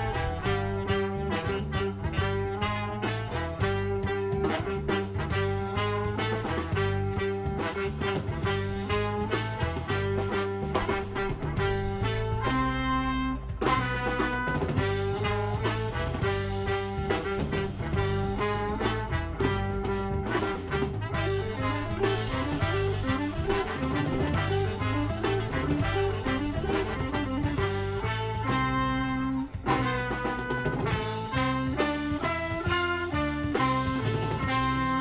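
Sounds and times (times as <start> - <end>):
drum kit beat: 0.0 - 35.0
electric bass: 0.0 - 35.0
guitar: 0.0 - 35.0
trumpet and trombone melody: 0.0 - 35.0.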